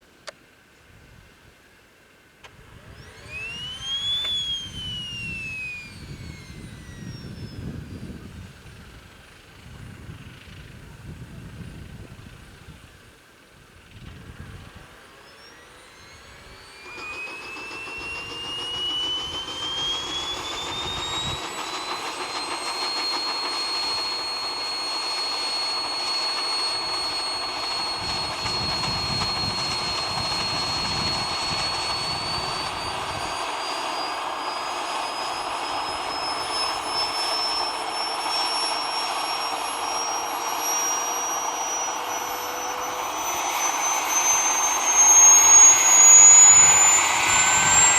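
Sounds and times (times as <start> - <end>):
model turbine engine whine: 0.0 - 47.9.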